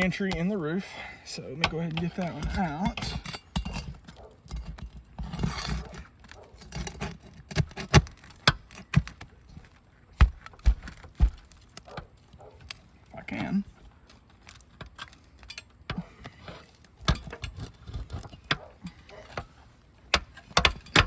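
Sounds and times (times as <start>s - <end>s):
pry bar scraping shingles: 0.0s - 21.0s.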